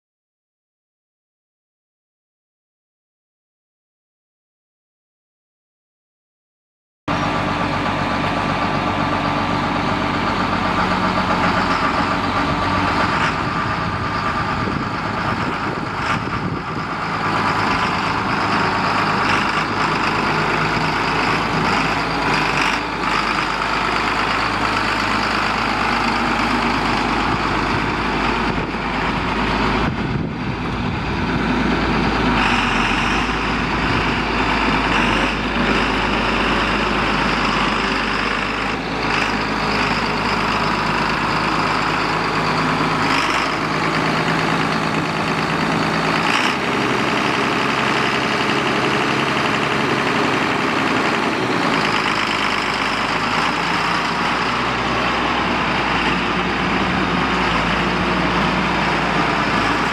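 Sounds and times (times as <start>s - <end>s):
tractor diesel engine running: 7.1s - 59.9s.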